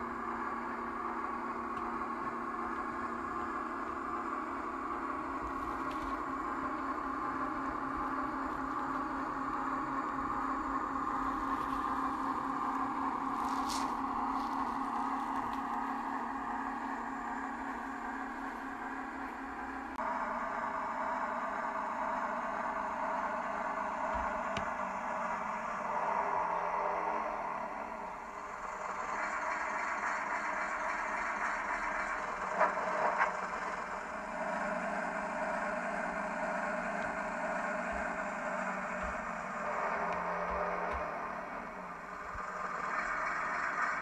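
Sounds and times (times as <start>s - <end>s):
diesel railcar engine through small speaker: 0.0s - 44.0s.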